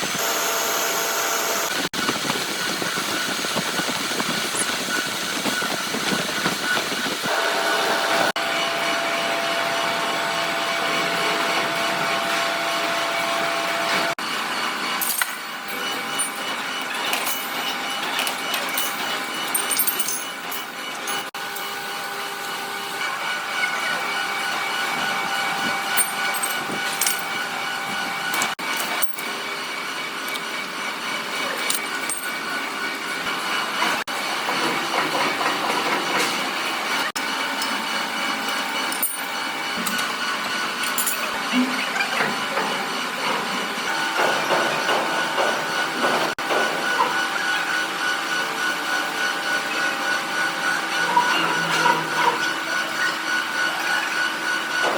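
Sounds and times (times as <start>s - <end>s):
workshop machine whining: 0.0s - 54.9s.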